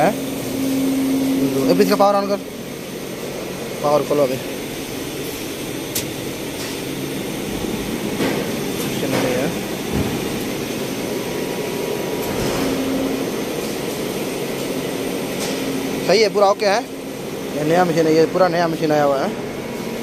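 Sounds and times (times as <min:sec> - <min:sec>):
machine fan noise: 0:00.0 - 0:20.0.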